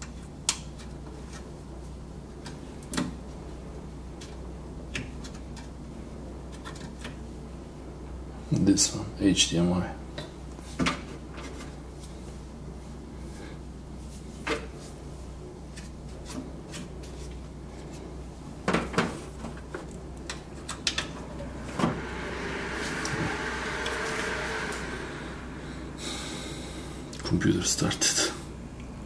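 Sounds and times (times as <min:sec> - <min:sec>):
computer fans humming: 0:00.0 - 0:29.0.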